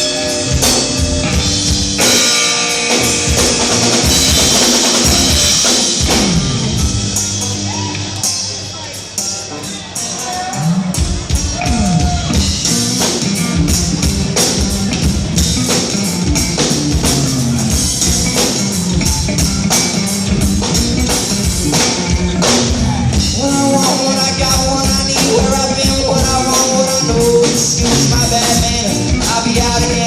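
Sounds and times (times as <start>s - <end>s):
drums and bass: 0.0s - 30.0s
live band playing: 0.0s - 30.0s.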